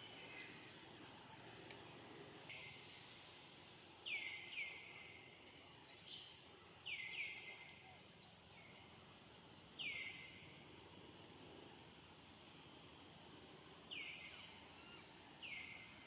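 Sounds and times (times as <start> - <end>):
outdoor ambience: 0.0 - 16.0.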